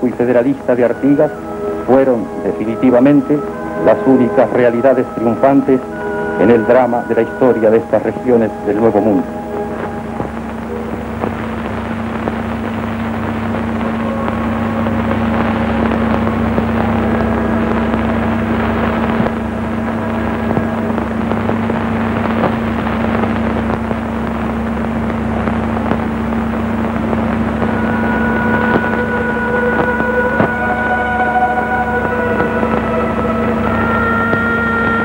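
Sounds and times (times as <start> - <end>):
film soundtrack hiss: 0.0 - 35.0
low hum: 0.0 - 35.0
held tones: 0.4 - 24.0, 25.7 - 35.0.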